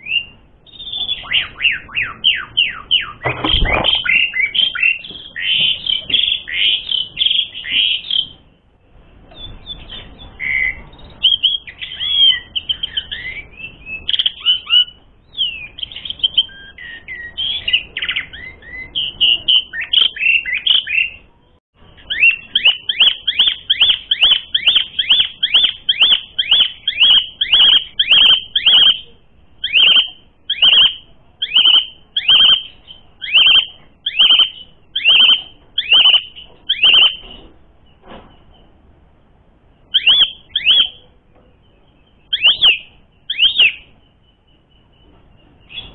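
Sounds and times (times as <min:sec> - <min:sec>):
starling singing: 0:00.0 - 0:37.9, 0:39.8 - 0:45.9
repeated sharp down-slurred bird notes: 0:00.0 - 0:38.7, 0:39.7 - 0:45.9.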